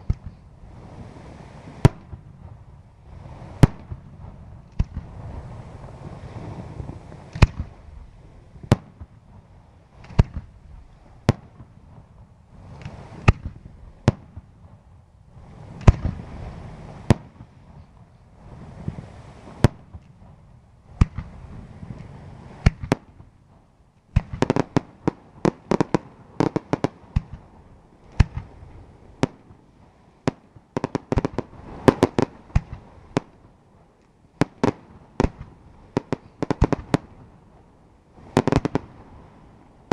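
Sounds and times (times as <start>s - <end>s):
fireworks bursting with bangs: 0.0s - 39.9s.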